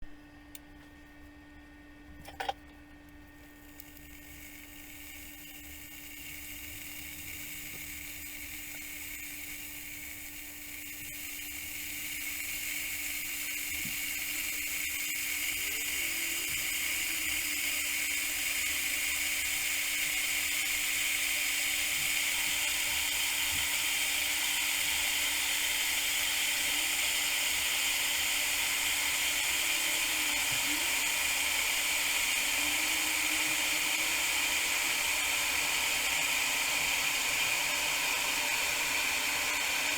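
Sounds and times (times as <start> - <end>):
electric kettle hissing: 2.1 - 39.9.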